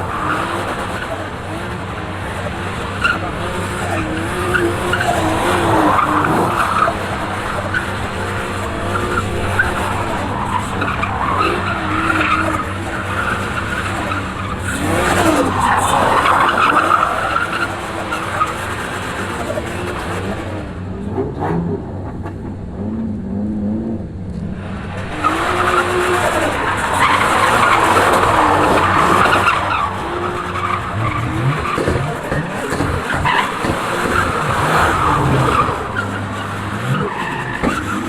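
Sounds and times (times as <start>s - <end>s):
tyre spinning and squealing: 0.0s - 21.7s, 25.2s - 38.0s
car engine revving: 0.0s - 38.0s.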